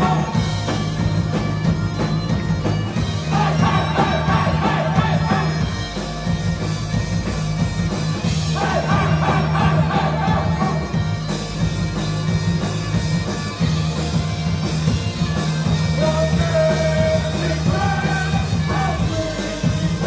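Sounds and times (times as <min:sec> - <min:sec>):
bagpipes playing: 0:00.0 - 0:20.0
drums: 0:00.0 - 0:20.0
electric guitars: 0:00.0 - 0:20.0.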